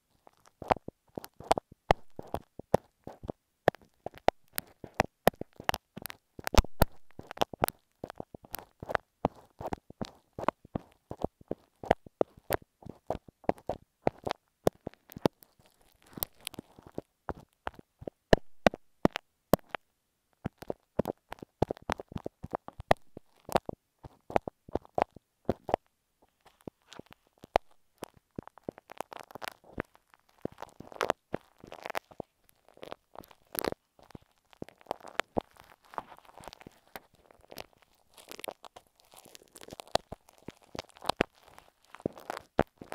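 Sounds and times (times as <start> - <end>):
sticky clicks and crackles: 0.0 - 19.8, 20.4 - 42.9.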